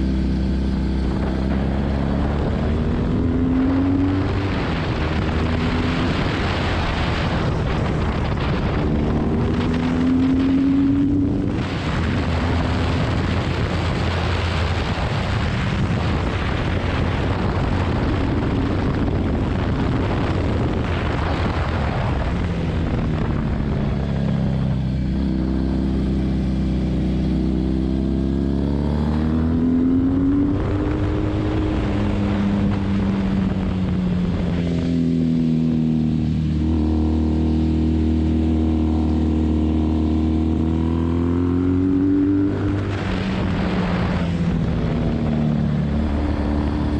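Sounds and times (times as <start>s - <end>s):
motorcycle engine revving: 0.0s - 46.9s
wind rush over microphone: 0.0s - 46.9s.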